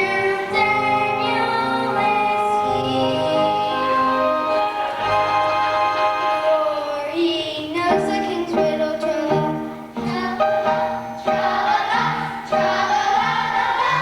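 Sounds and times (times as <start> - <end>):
choir singing: 0.0 - 7.2, 7.9 - 14.0
instrumental accompaniment: 0.0 - 14.0.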